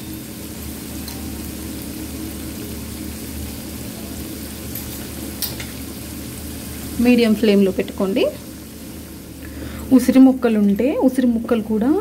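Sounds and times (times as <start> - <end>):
leaves sizzling in oil: 0.0 - 12.0.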